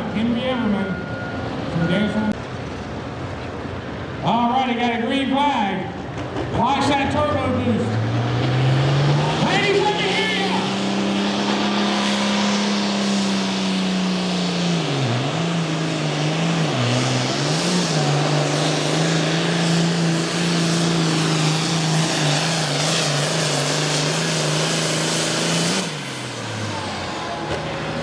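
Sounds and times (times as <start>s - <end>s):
diesel tractor engine at full throttle: 0.0s - 28.0s.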